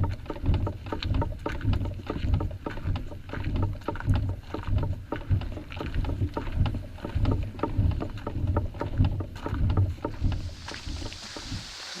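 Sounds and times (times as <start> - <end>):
gear clicking and knocking: 0.0 - 11.7
footsteps on a trail: 0.0 - 12.0.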